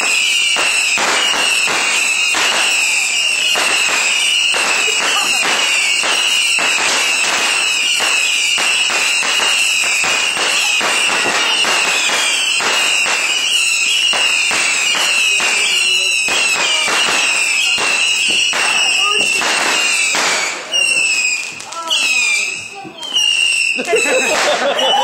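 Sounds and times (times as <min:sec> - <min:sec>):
fireworks crackling pops: 0:00.0 - 0:25.0
steady high whistle: 0:00.0 - 0:25.0.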